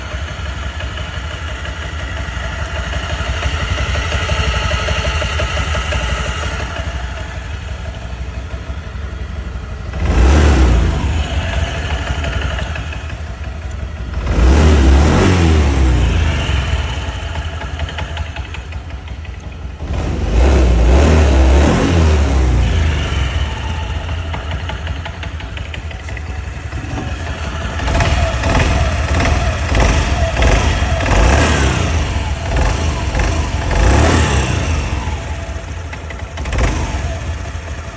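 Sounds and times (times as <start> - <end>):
scooter engine revving: 0.0 - 37.9.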